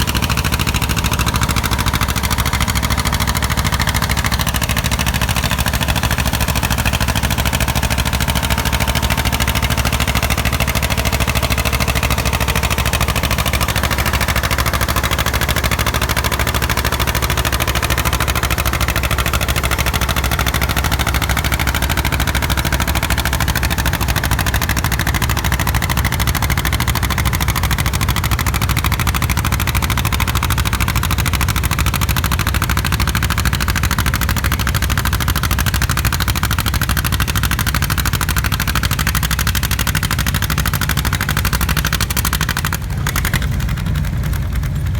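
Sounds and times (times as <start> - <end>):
tractor engine exhaust popping: 0.0 - 44.9.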